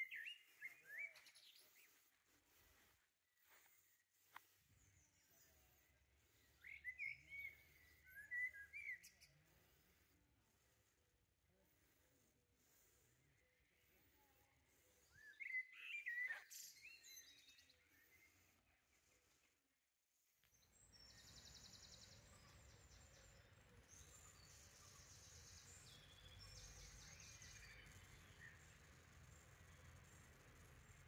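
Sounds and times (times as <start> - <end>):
songbirds singing: 0.0 - 3.7, 4.3 - 10.8, 13.2 - 19.4, 20.4 - 31.0.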